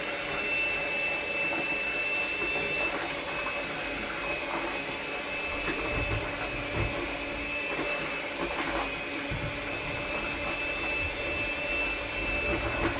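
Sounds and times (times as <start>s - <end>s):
electric mixer whining: 0.0s - 12.9s.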